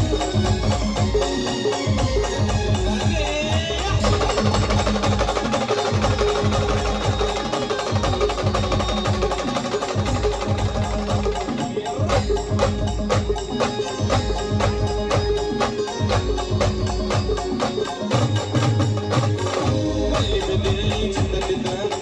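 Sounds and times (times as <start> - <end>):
fast drum and percussion rhythm: 0.0 - 22.0.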